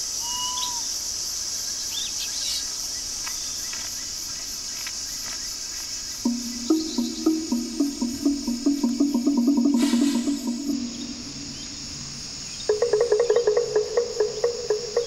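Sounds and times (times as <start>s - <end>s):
insects droning: 0.0s - 15.0s
birds chirping: 1.7s - 15.0s.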